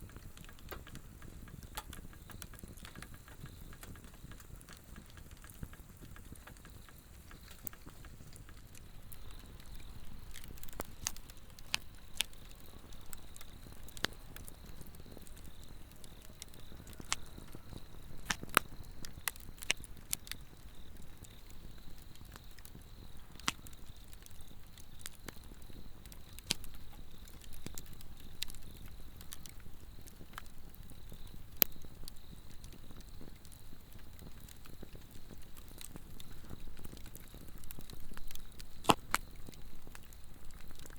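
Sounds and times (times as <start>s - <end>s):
insect chirring: 0.0s - 40.9s
log fire crackling and popping: 0.0s - 40.9s.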